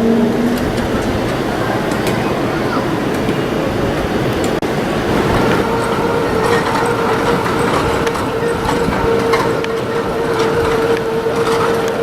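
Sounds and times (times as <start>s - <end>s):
tram drive whine: 0.0s - 12.0s
wheels clicking and clattering: 0.0s - 12.0s.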